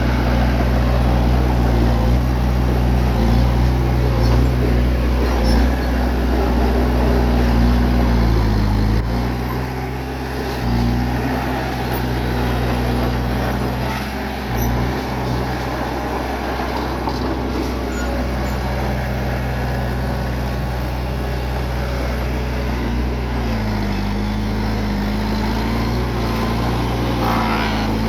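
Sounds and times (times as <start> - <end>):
bulldozer diesel engine under load: 0.0 - 28.0.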